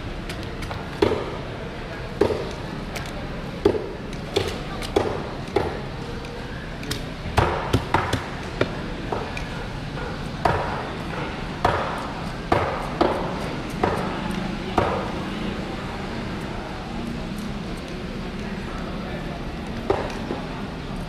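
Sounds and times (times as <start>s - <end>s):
market chatter: 0.0s - 21.0s.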